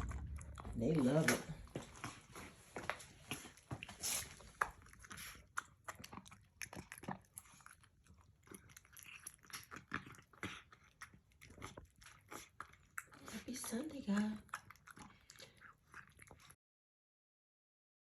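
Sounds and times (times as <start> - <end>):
cat crunching and chewing food: 0.0 - 16.6.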